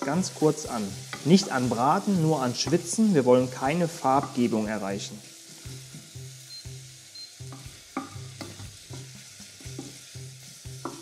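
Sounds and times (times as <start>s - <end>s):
vegetables sizzling in butter: 0.0s - 11.0s.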